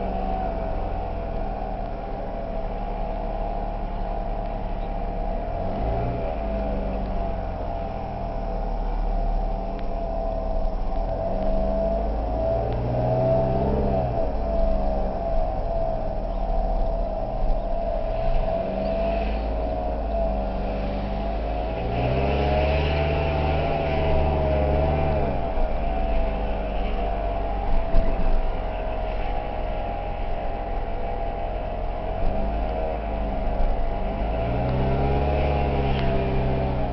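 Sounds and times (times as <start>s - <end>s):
strange car noise: 0.0s - 36.9s
supercharged car engine revving: 0.0s - 36.9s.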